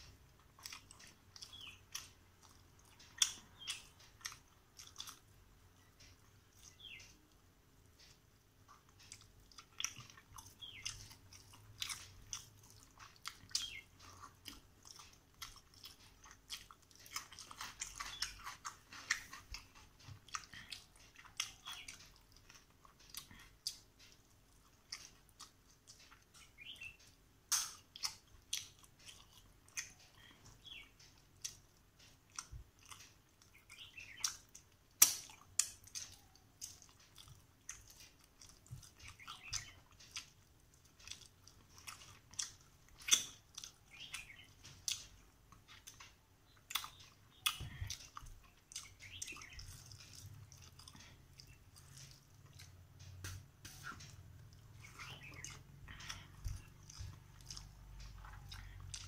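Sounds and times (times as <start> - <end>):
chewing and mouth smacks: 0.0 - 59.0.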